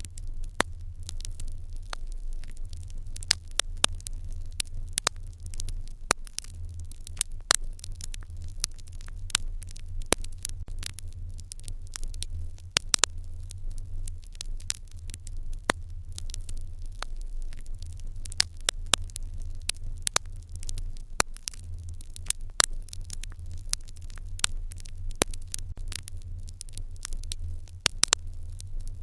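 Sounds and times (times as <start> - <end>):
open fire crackling and popping: 0.0 - 29.0.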